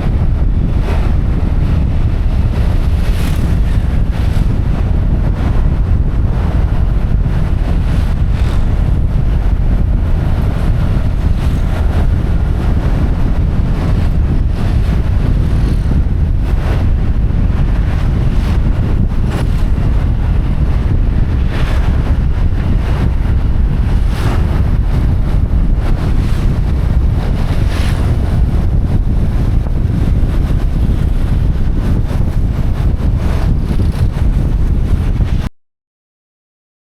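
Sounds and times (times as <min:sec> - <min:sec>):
road and vehicle noise: 0:00.0 - 0:35.4
wind buffeting microphone: 0:00.0 - 0:35.5.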